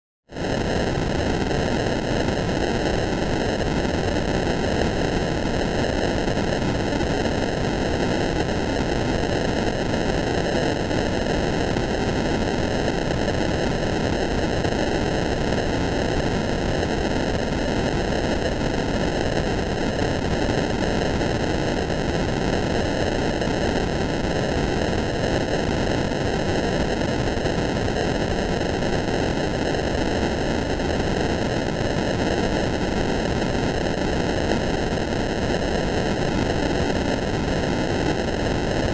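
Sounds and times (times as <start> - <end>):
loud static hiss: 0.4 - 38.9.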